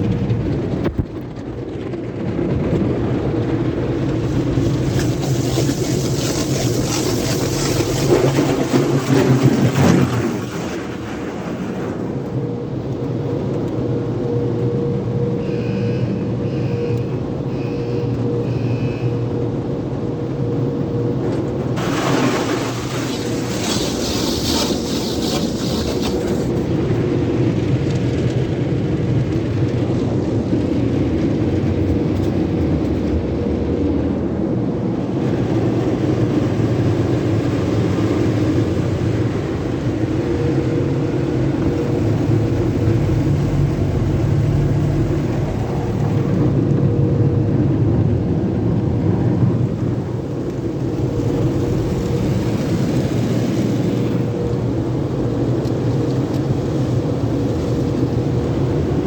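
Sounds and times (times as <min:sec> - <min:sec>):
car wash equipment rumbling: 0:00.0 - 0:59.0.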